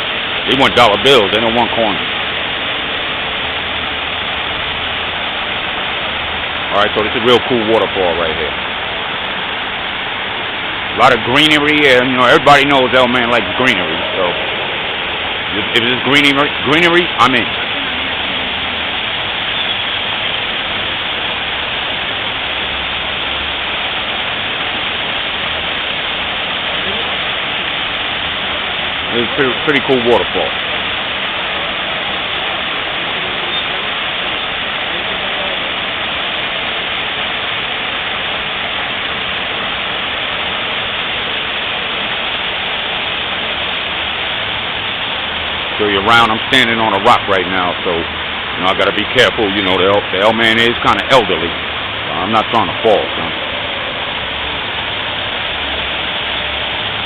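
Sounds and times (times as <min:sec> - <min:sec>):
waterfall splashing onto rocks: 0:00.0 - 0:57.0.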